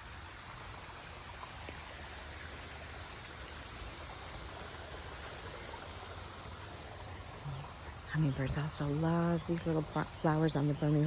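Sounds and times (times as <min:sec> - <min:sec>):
running water hiss: 0:00.0 - 0:11.0.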